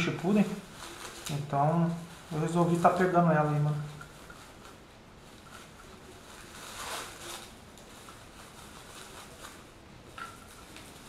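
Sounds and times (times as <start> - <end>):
bubble wrap crinkling and rustling: 0.0 - 11.0.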